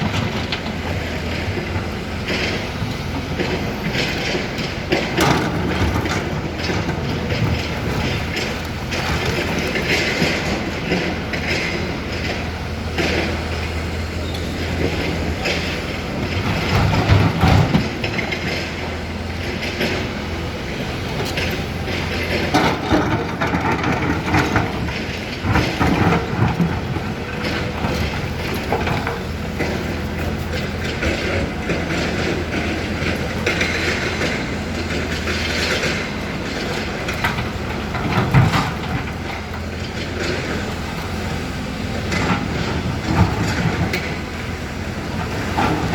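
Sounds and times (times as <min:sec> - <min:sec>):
excavator diesel engine humming: 0:00.0 - 0:45.9.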